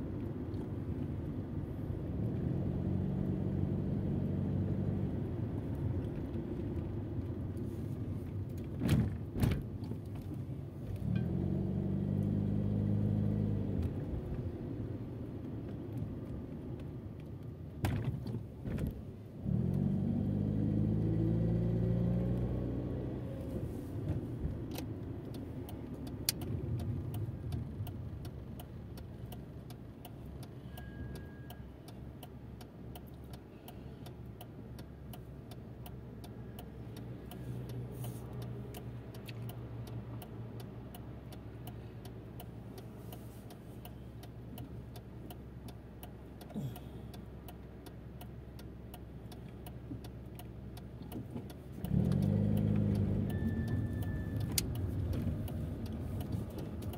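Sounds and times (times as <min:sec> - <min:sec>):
car engine running at low speed: 0:00.0 - 0:56.9
turn signal ticking: 0:00.0 - 0:56.9.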